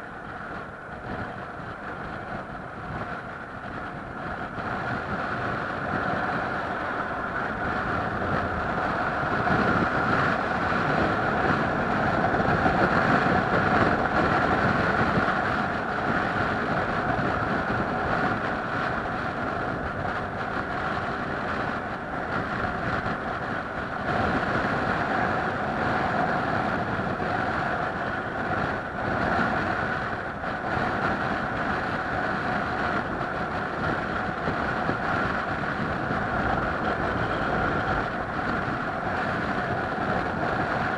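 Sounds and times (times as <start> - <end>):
vehicle hum and road noise: 0.0 - 40.9.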